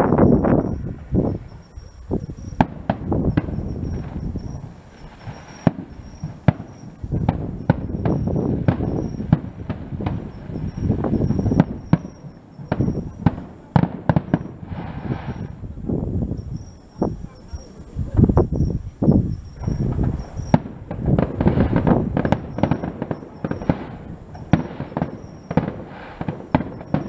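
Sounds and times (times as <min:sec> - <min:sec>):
firework bangs and crackles: 0:00.0 - 0:27.0.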